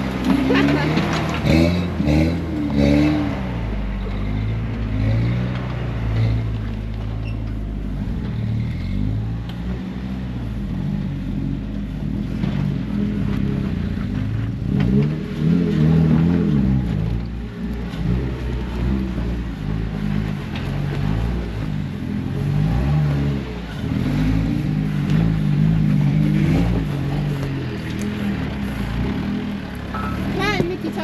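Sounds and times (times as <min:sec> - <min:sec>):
off-road engine revving: 0:00.0 - 0:31.0.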